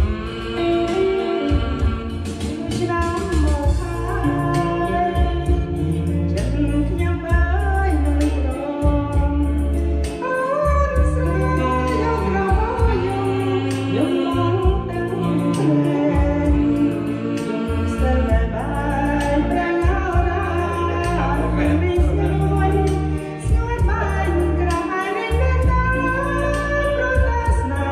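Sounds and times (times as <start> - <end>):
backing track with bass and beat: 0.0 - 27.9
person singing karaoke: 0.0 - 27.9.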